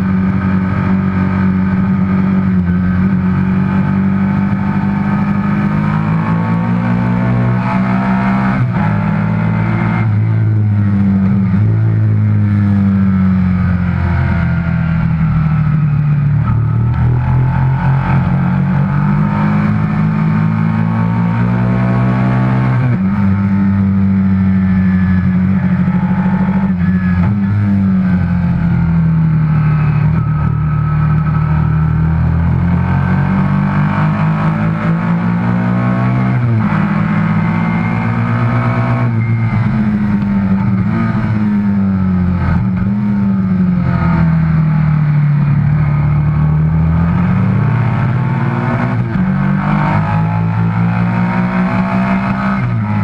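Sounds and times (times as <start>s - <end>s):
racing motorcycle engine: 0.0s - 53.0s.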